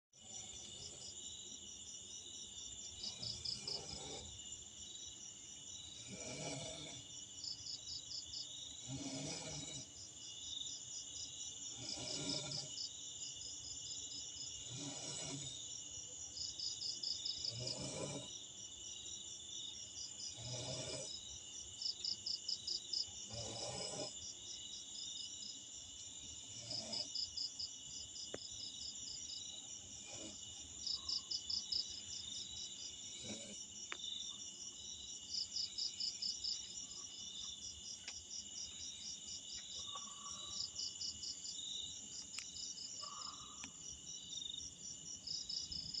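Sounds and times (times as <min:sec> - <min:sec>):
insects chorus: 0:00.2 - 0:46.0.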